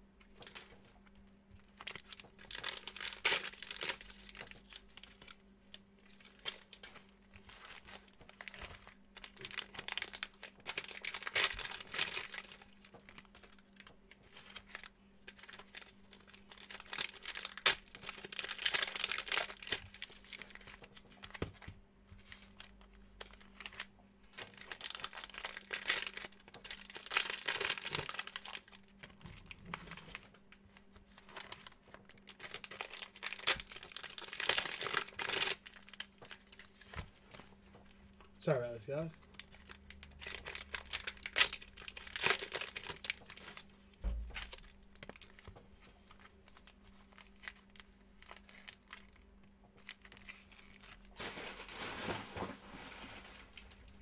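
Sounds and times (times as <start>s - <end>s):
plastic wrappers tearing and crinkling: 0.4s - 0.9s, 1.6s - 37.6s, 38.9s - 54.0s.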